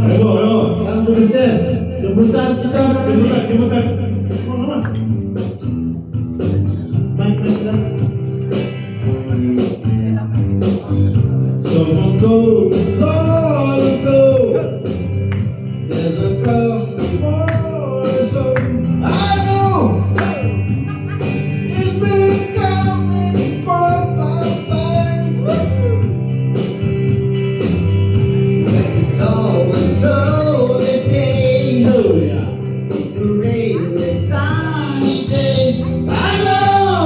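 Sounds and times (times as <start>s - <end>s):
bass: 0.0s - 37.0s
guitar: 0.0s - 37.0s
drums with steady beat: 1.6s - 37.0s.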